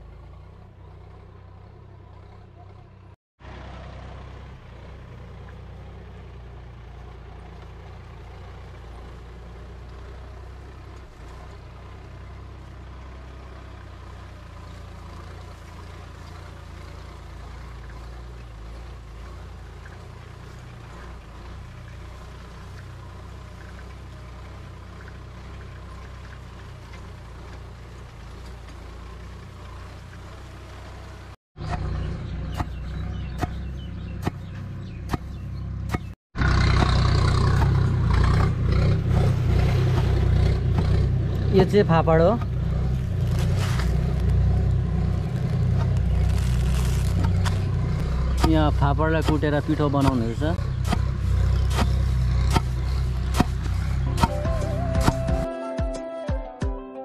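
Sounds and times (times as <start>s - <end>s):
tractor diesel engine running: 0.0s - 55.5s.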